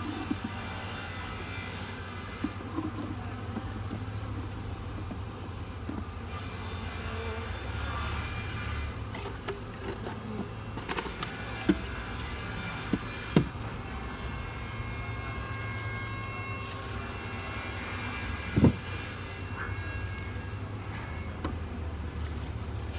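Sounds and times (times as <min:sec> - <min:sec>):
honey bees buzzing: 0:00.0 - 0:22.9.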